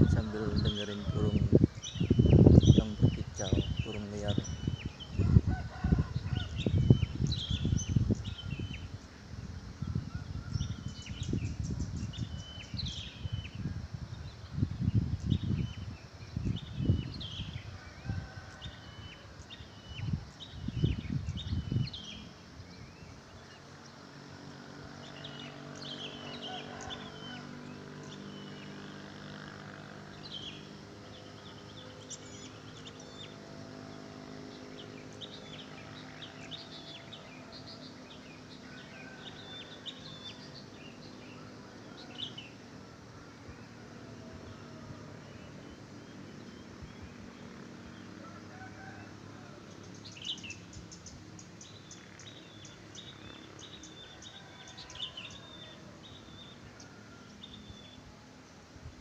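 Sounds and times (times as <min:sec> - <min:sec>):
wild birds chirping and trilling: 0:00.0 - 0:59.0.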